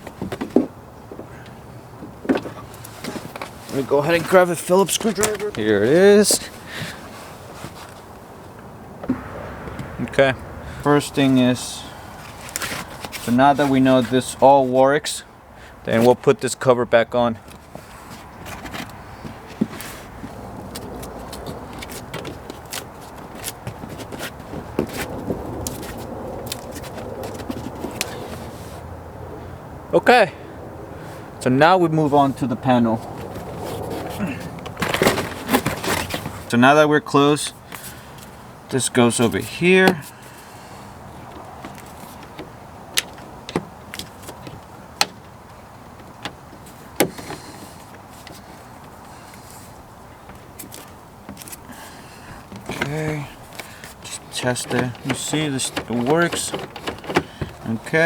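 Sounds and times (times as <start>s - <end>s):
car door parts clicking and scraping: 0.0s - 10.2s, 10.8s - 14.5s, 17.4s - 28.8s, 33.0s - 36.6s, 37.5s - 58.0s.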